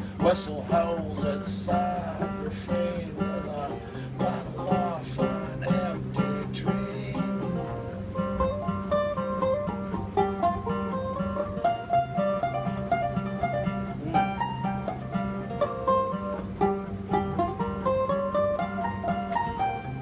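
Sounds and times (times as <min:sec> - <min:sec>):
acoustic string-band instrumental: 0:00.0 - 0:20.0.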